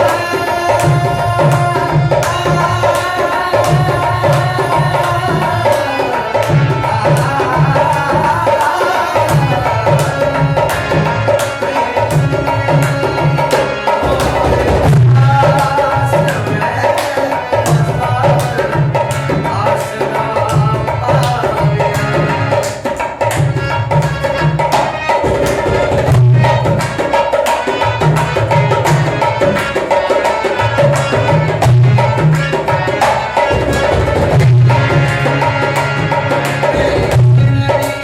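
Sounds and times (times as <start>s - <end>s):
hand drums playing rhythm: 0.0s - 38.0s.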